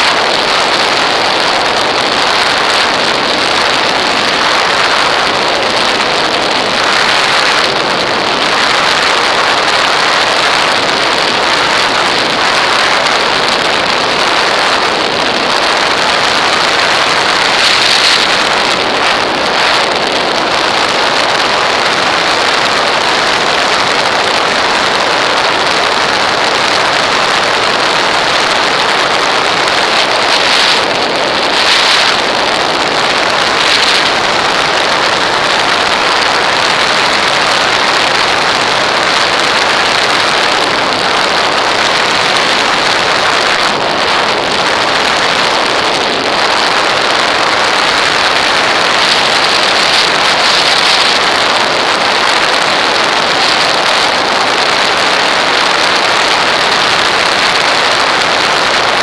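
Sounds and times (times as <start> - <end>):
airflow rushing over camera: 0.0 - 54.1.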